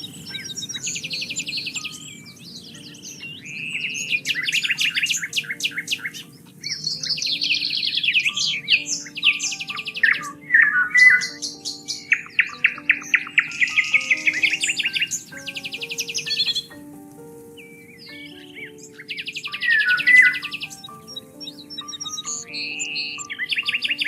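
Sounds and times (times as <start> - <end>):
soft background music: 0.0 - 24.0
songbirds singing: 0.0 - 24.0.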